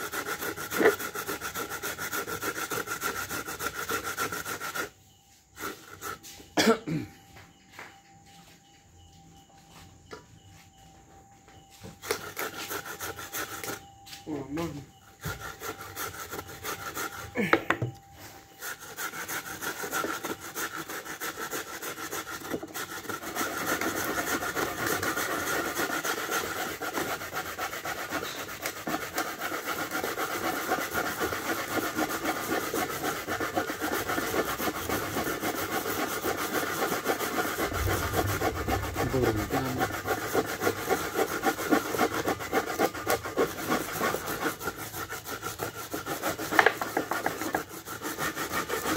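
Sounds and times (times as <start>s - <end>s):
coconut grating rasping scrape: 0.0s - 6.6s, 11.8s - 48.9s.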